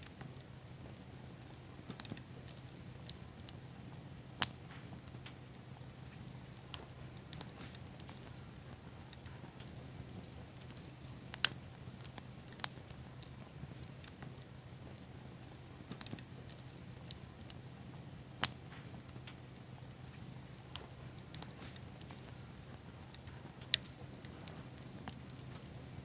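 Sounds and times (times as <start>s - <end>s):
campfire crackling and popping: 0.0s - 26.0s
faint steady hiss: 0.0s - 26.0s.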